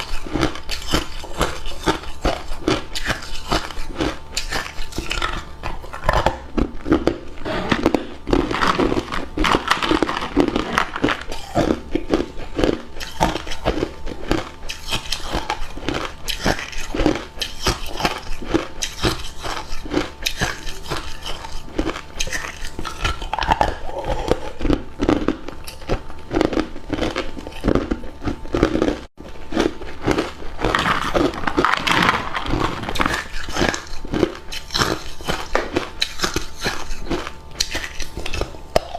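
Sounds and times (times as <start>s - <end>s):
person chewing ice cubes: 0.0s - 38.9s.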